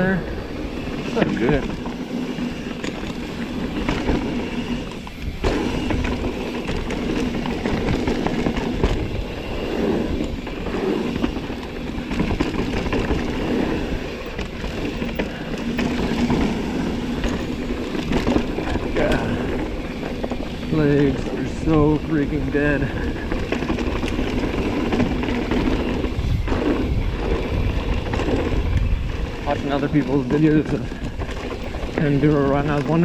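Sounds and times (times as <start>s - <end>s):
bike rattling and knocking: 0.0s - 33.0s
tyres rumbling over dirt: 0.0s - 33.0s.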